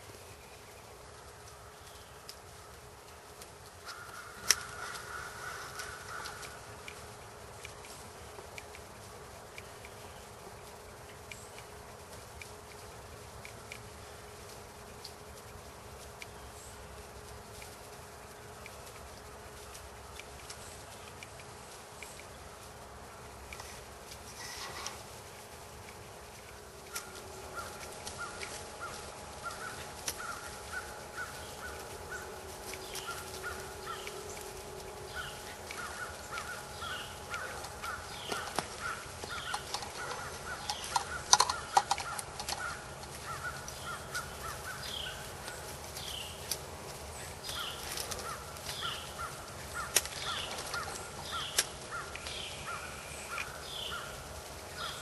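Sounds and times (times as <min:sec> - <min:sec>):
birds rapidly repeated calls: 0:00.3 - 0:55.0.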